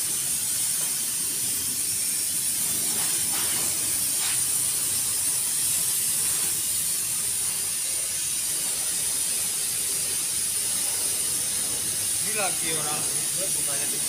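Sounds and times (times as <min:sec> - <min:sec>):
pressure washer spray hissing: 0:00.0 - 0:14.0.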